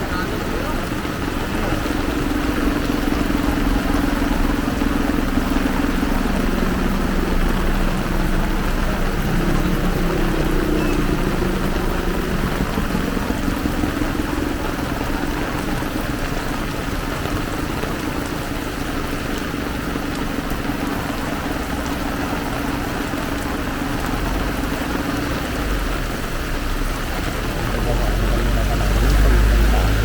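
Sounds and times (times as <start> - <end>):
heavy rain pouring: 0.0 - 30.0
vehicle engine humming: 0.0 - 30.0.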